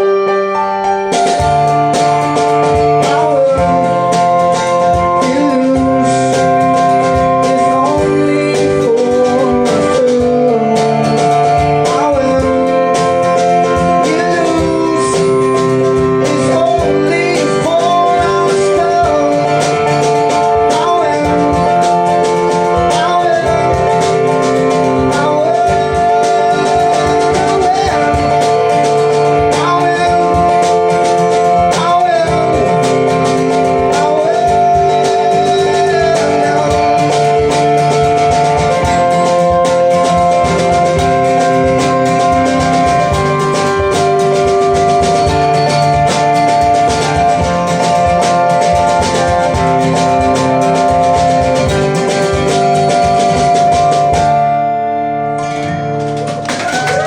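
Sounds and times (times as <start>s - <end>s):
person singing: 0.0s - 54.4s
strummed guitar: 0.0s - 57.0s.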